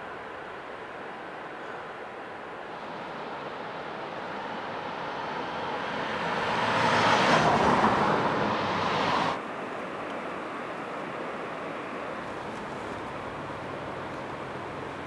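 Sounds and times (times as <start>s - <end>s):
vehicle tyre and road noise: 0.0s - 15.0s.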